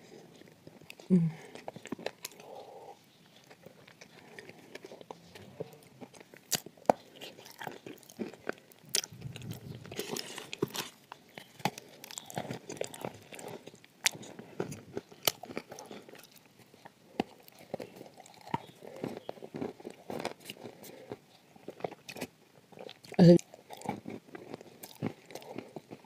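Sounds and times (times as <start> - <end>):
person crunching and chewing: 0.0 - 26.0.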